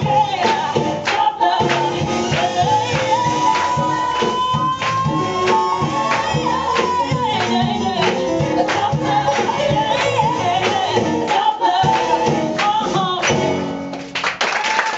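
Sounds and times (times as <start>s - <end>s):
upbeat pop music with singing: 0.0s - 13.9s.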